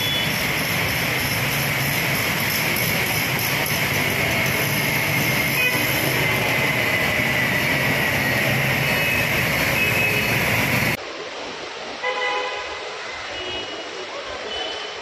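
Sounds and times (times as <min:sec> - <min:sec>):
water rushing: 0:00.0 - 0:15.0
wet road traffic noise: 0:00.0 - 0:15.0.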